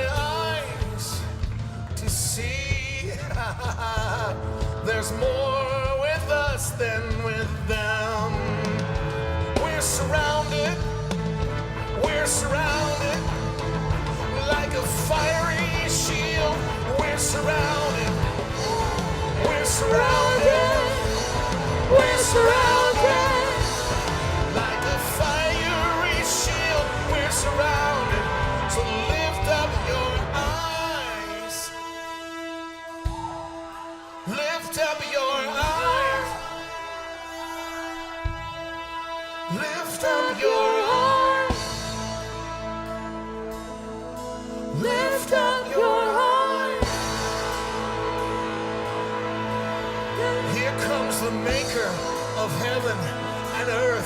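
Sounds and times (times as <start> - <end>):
sustained keyboard chords and bass: 0.0 - 31.4, 40.9 - 54.0
band accompaniment: 0.0 - 54.0
person singing: 9.5 - 43.4, 44.6 - 54.0.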